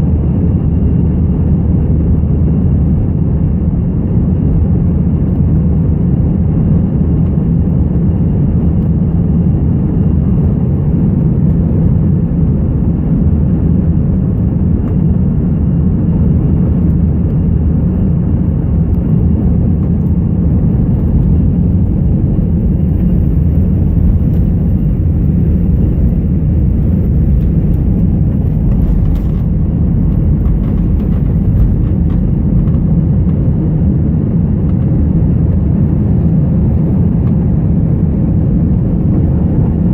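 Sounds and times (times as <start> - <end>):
jet engines and rushing air: 0.0 - 39.9.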